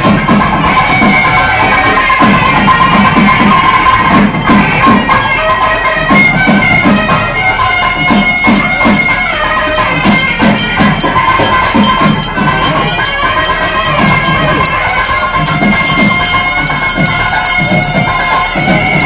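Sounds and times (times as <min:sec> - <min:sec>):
drums beating fast rhythm: 0:00.0 - 0:19.0
held melodic notes: 0:00.0 - 0:19.0.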